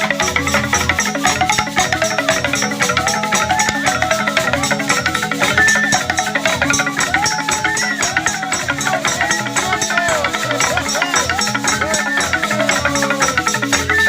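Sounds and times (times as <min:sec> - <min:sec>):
dense percussion beat: 0:00.0 - 0:14.0
gliding melody: 0:00.0 - 0:14.0.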